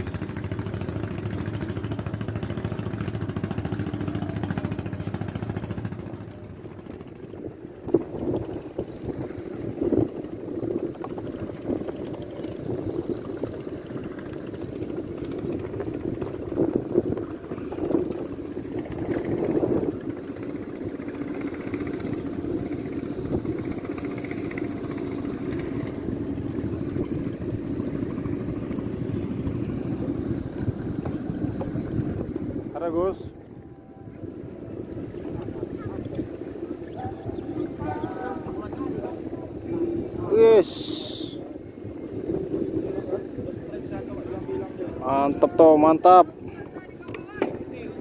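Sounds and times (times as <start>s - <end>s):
boat engine droning: 0.0s - 48.0s.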